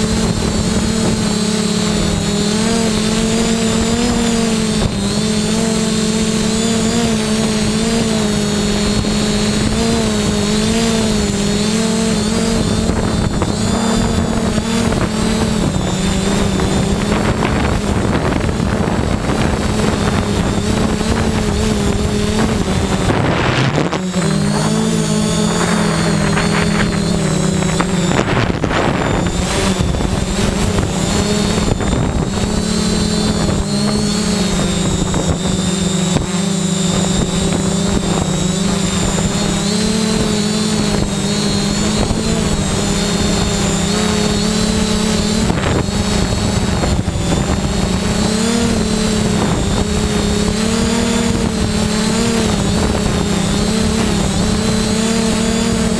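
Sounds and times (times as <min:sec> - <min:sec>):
drone propellers whining: 0:00.0 - 0:55.9.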